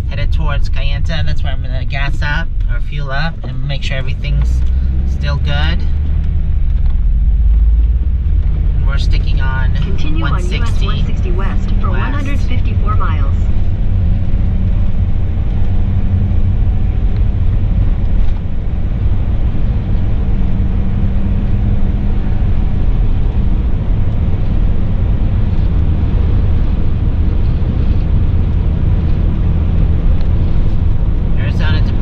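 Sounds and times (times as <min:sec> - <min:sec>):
motorhome engine drone: 0:00.0 - 0:32.0
road rumble: 0:00.0 - 0:32.0.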